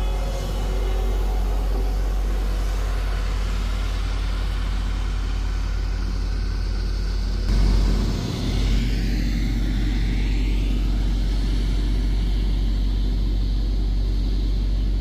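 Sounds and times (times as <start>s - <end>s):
heavy diesel engine running: 0.0s - 15.0s
low rumble: 0.0s - 15.0s.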